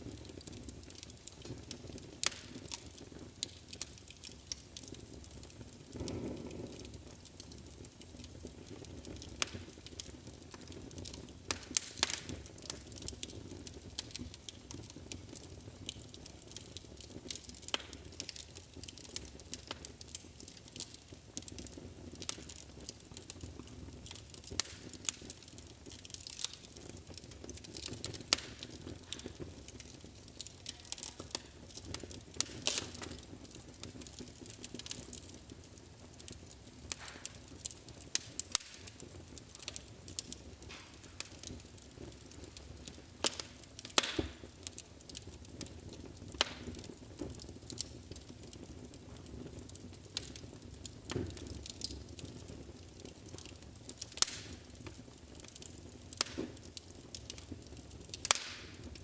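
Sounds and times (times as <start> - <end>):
flames rumbling hiss: 0.0 - 59.0
wood fire crackling: 0.0 - 59.0.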